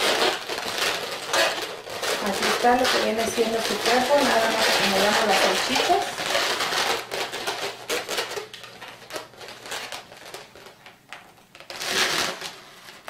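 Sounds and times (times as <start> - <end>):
balloons rubbing scratchy rustles: 0.0 - 13.0.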